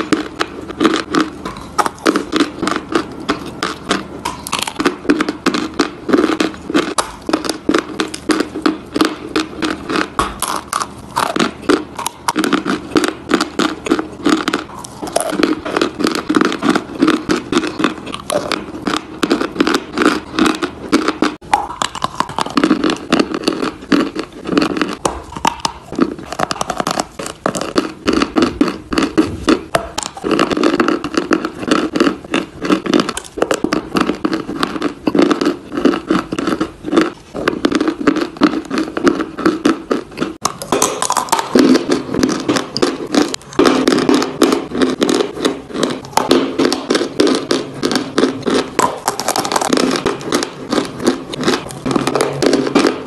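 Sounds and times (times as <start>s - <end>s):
crunching dry clay in teeth: 0.0s - 53.0s.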